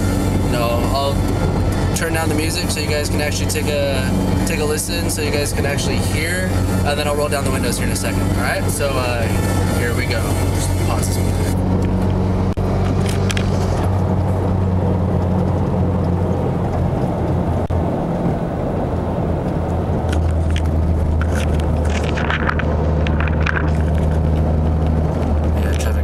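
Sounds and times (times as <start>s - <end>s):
low exhaust hum: 0.0s - 26.0s
road noise: 0.0s - 26.0s.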